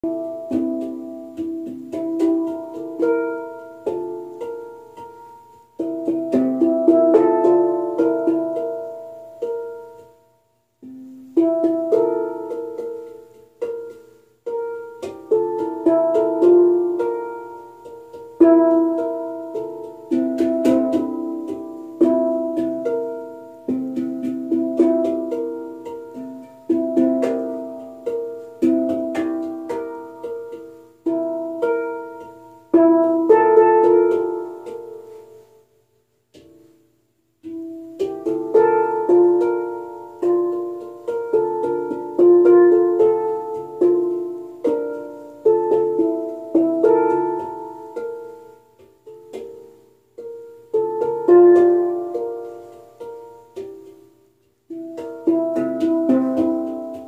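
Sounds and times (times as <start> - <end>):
handpans played in rhythmic groove: 0.0 - 57.0.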